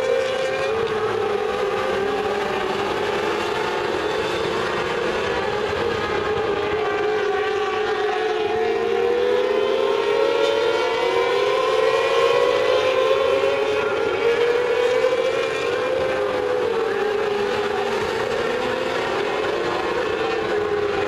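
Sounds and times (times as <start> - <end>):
sprint car engines racing: 0.0 - 21.0.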